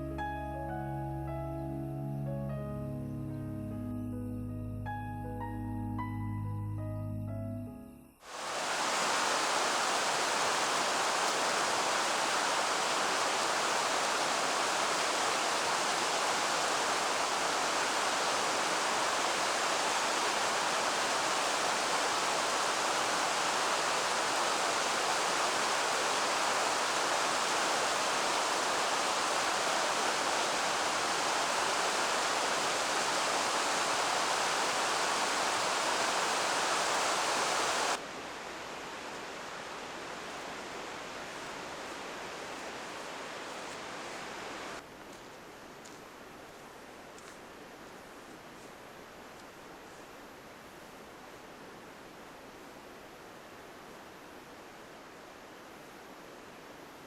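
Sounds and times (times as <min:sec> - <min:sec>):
running water rushing: 0:08.2 - 0:57.0.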